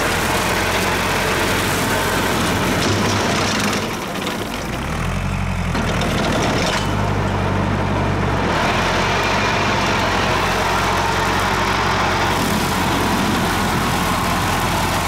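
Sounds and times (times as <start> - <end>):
rotary mower cutting grass: 0.0 - 15.0
tractor engine running: 0.0 - 15.0.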